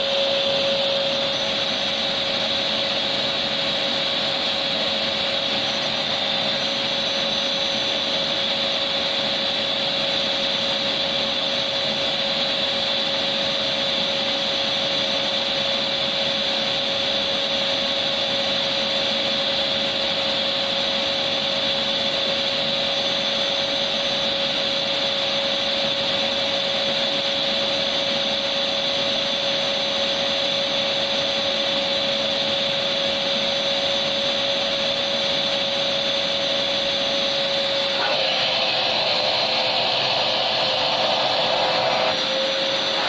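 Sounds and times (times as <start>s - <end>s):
vacuum cleaner motor running: 0.0s - 43.0s.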